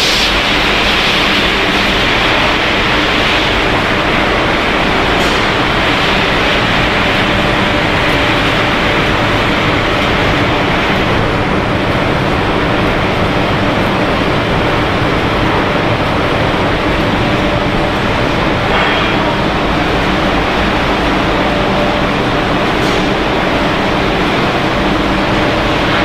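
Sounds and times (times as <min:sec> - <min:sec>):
production line machinery running: 0:00.0 - 0:26.0.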